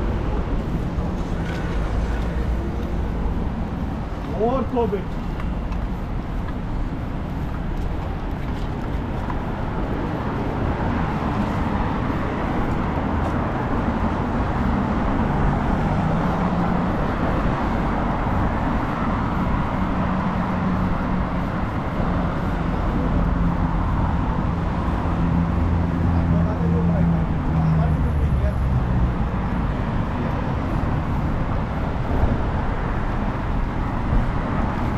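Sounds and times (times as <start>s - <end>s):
hum of passing vehicles: 0.0s - 34.9s.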